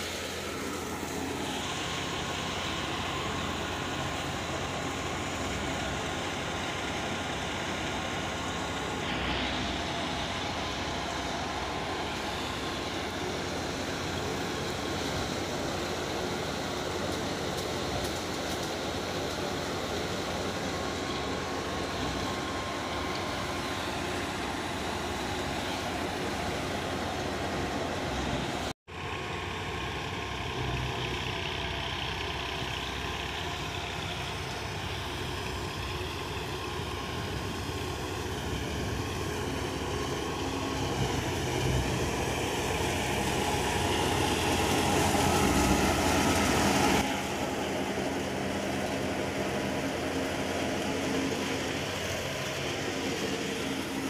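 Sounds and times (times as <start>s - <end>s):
thresher running: 0.0s - 30.6s, 32.2s - 54.0s
diesel tractor engine under load: 0.0s - 54.0s.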